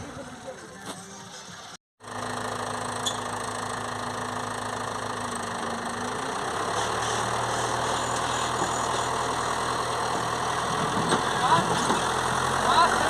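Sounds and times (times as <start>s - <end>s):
diesel engine idling: 2.0s - 13.0s.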